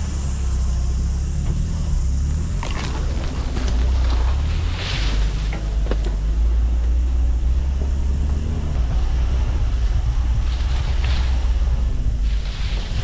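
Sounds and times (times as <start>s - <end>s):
noisy hiss: 0.0s - 13.0s
van engine rumbling: 0.0s - 13.0s.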